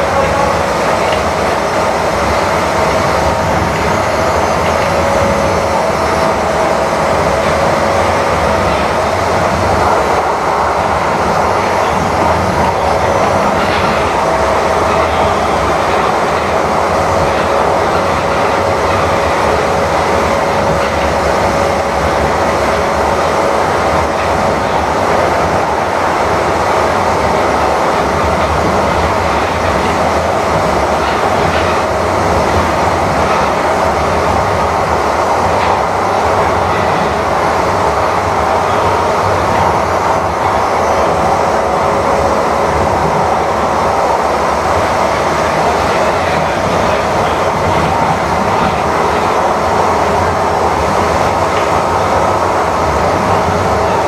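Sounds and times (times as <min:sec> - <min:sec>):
rumble of train wheels on rail: 0:00.0 - 0:54.0.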